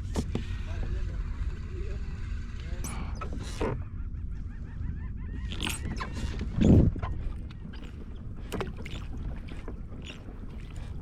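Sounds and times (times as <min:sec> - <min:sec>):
water on boat hull: 0:00.0 - 0:04.1, 0:05.3 - 0:11.0
wind: 0:00.0 - 0:11.0.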